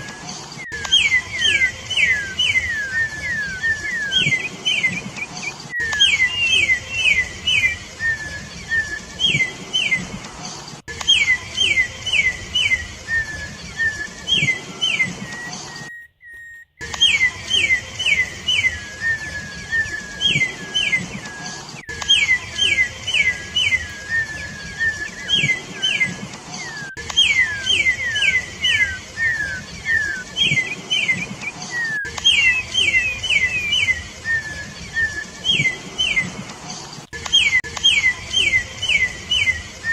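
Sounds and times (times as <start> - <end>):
bird whistling clear notes: 0.0 - 10.0, 10.9 - 36.4.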